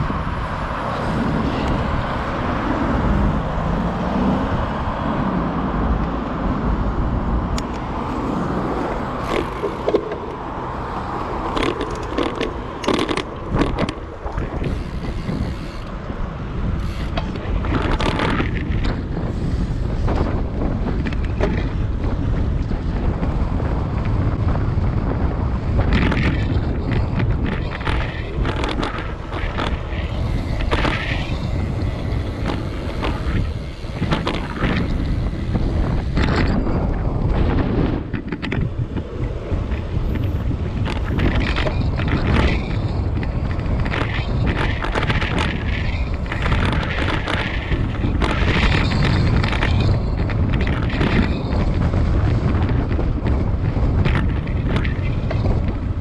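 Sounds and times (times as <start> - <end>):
bicycle clicks and rattles: 0.0 - 3.9, 5.8 - 56.0
bicycle tyres on road: 0.0 - 56.0
passing traffic: 0.0 - 56.0
wind on microphone: 0.0 - 56.0.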